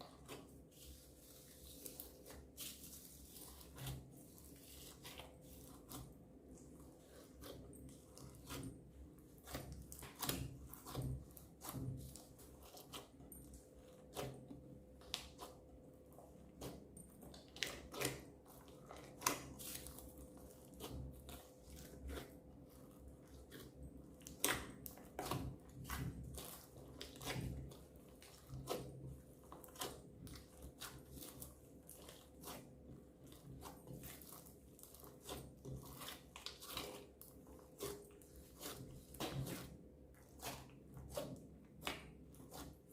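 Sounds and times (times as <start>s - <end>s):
slime squelching with wet clicks: 0.0s - 42.9s.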